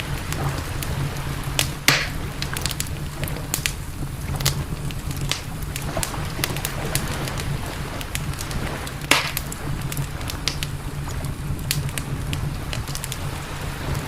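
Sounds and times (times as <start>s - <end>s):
campfire crackling and popping: 0.0s - 14.0s
steady low rumble: 0.0s - 14.0s.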